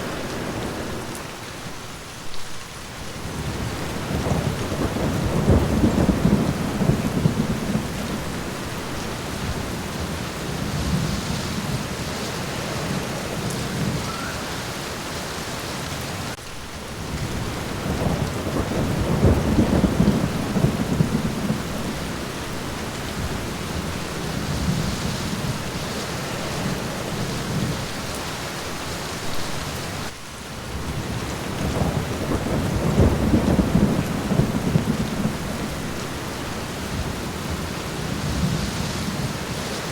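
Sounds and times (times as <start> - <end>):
rain pattering on a window: 0.0 - 39.9
rolling thunder: 3.2 - 15.0, 16.9 - 28.2, 30.7 - 39.9.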